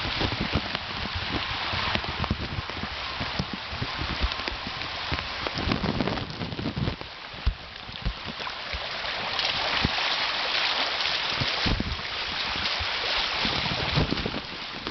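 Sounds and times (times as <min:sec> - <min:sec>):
wind thumps on microphone: 0:00.0 - 0:08.9, 0:11.3 - 0:14.9
floodwater rushing: 0:00.0 - 0:14.9
rain falling: 0:00.0 - 0:14.9.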